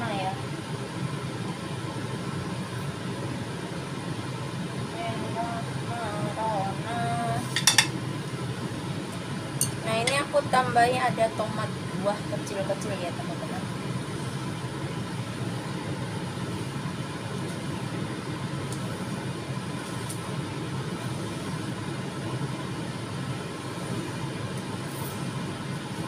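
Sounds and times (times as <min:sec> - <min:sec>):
machine hum with rushing hiss: 0:00.0 - 0:26.0.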